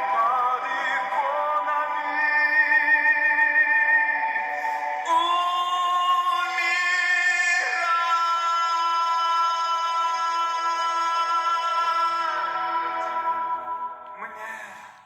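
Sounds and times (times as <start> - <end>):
music with singing: 0.0 - 15.0.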